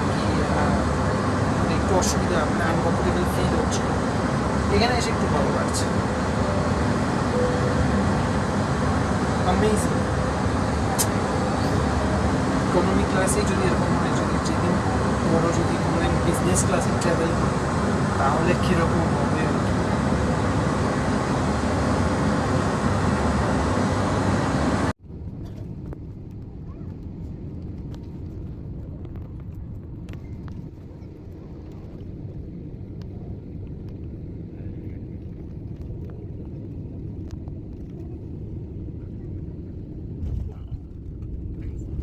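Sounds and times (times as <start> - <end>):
airliner cabin roar: 0.0 - 42.0
steady low rumble: 0.0 - 42.0.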